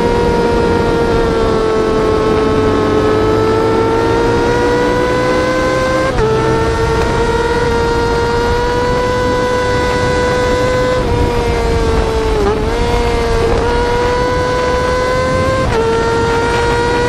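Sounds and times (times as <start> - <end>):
motorcycle engine revving high: 0.0 - 17.0.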